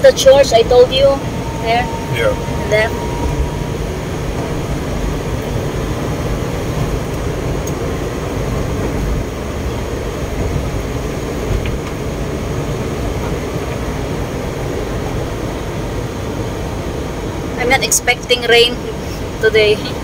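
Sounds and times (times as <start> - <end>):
car engine rumble: 0.0 - 20.0
tyres on wet road: 0.0 - 20.0
rain on a car: 3.1 - 20.0.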